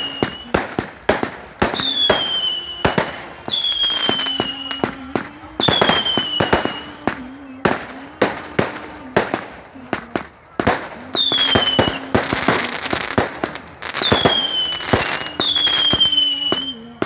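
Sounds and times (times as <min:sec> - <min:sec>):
fireworks cracking bangs: 0:00.0 - 0:17.0
whistling firework shells: 0:00.0 - 0:17.0.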